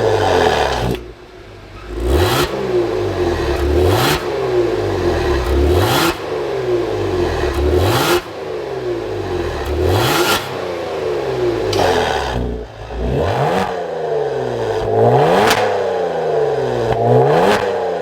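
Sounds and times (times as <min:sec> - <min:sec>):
car engine revving sharply: 0:00.0 - 0:18.0.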